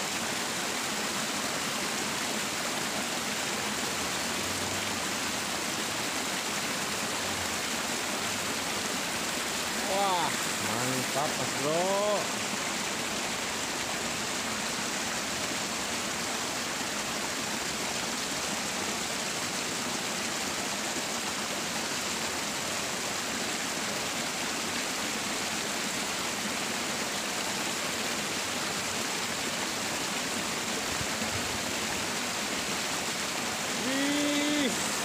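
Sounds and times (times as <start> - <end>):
water rushing through ditch: 0.0 - 35.0.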